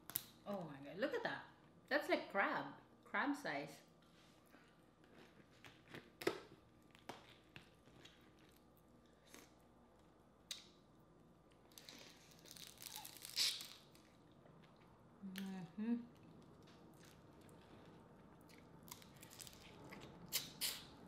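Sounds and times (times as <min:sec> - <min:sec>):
close-up eating sounds: 0:04.0 - 0:21.0.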